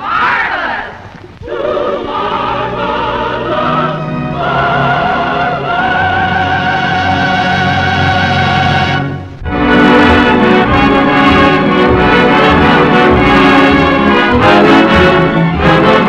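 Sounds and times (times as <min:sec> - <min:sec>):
voices singing: 0:00.0 - 0:16.0
orchestra playing: 0:02.2 - 0:16.0.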